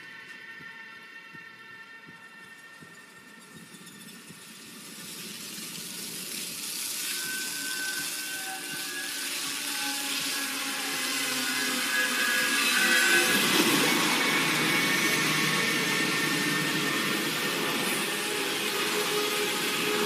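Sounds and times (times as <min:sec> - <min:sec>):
rushing noise: 0:00.0 - 0:20.0.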